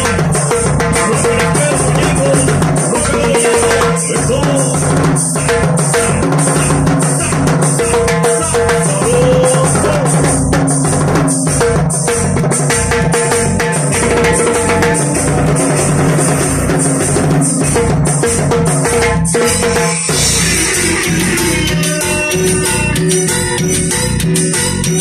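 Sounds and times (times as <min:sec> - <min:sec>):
drum kit and timbales beat: 0:00.0 - 0:25.0
live band playing: 0:00.0 - 0:25.0.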